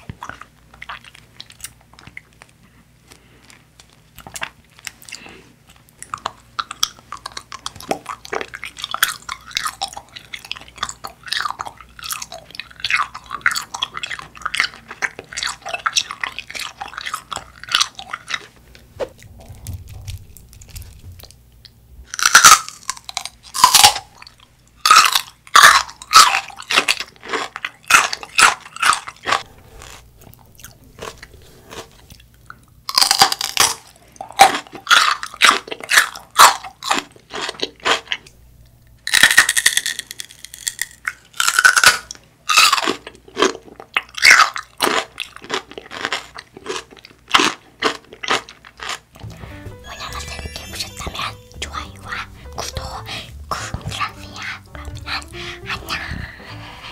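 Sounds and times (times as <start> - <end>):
crunchy chewing: 0.1 - 38.2, 39.1 - 49.1.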